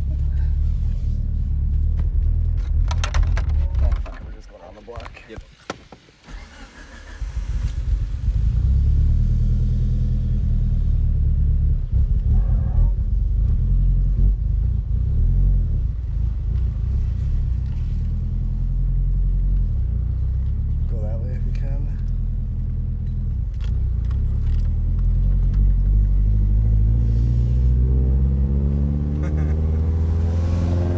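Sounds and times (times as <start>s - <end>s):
car engine rumble: 0.0s - 30.9s.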